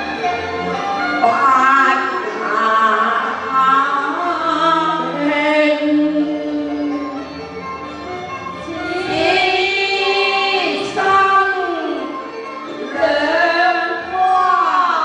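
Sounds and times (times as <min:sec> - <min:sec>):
opera singing with music: 0:00.0 - 0:15.0.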